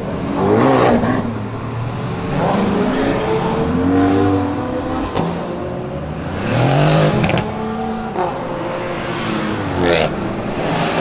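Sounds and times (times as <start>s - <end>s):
car engine revving: 0.0s - 11.0s
sports car engines driving past: 0.0s - 11.0s.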